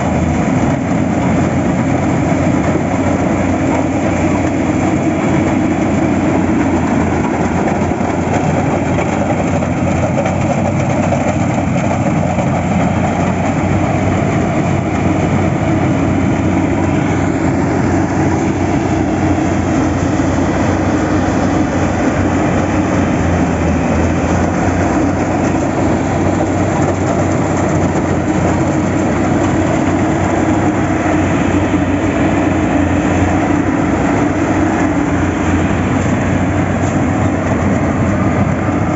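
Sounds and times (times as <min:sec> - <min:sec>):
vehicle running: 0:00.0 - 0:38.9.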